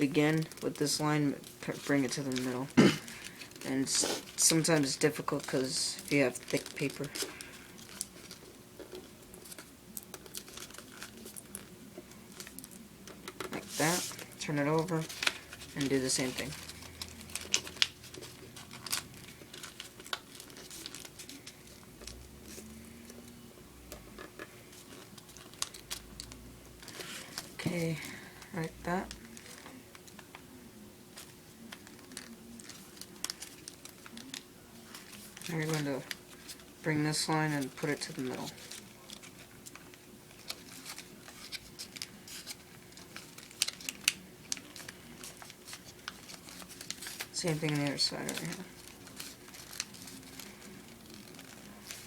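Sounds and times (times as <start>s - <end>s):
paper rustling and crinkling: 0.0s - 52.0s.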